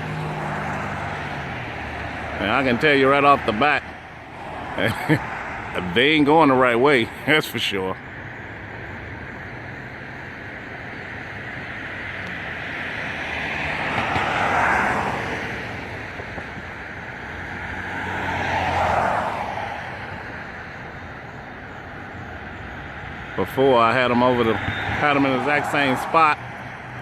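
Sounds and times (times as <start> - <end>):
outdoor traffic hum: 0.0 - 27.0
vehicles passing by: 0.0 - 27.0.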